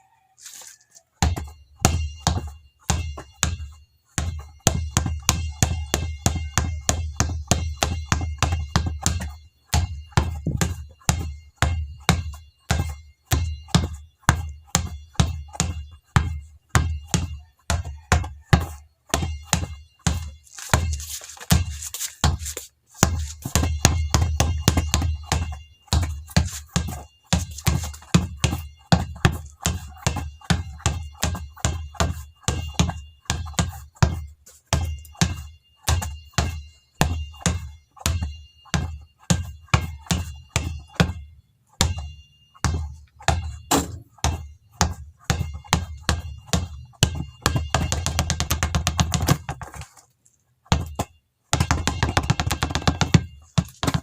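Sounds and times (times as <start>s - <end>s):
basketball dribbled on hard floor: 1.2s - 50.0s, 50.7s - 54.0s.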